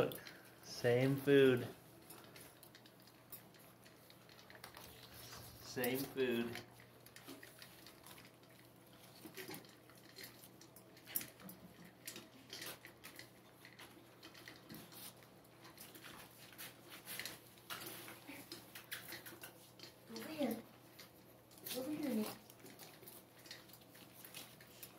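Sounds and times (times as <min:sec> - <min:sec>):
puppies crunching dry kibble: 0:00.0 - 0:24.9.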